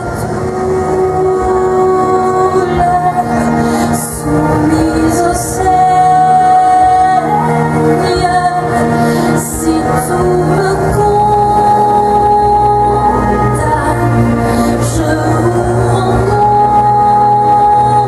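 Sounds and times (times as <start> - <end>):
person singing long notes: 0.0 - 18.0.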